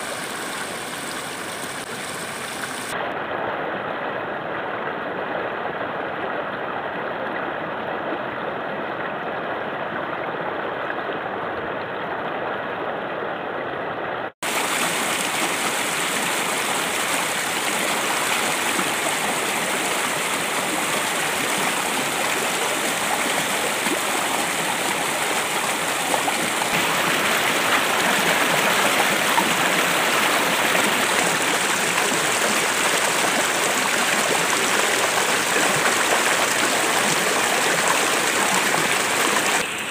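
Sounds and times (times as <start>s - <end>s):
rocky stream flowing: 0.0s - 39.9s.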